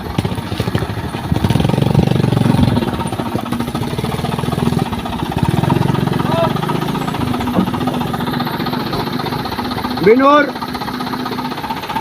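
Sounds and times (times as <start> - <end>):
heavy diesel engine chugging: 0.0 - 12.0.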